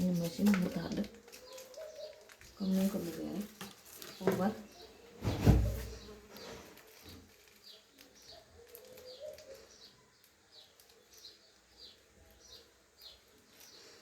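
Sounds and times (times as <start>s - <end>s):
bird chirping faintly: 0.0s - 14.0s.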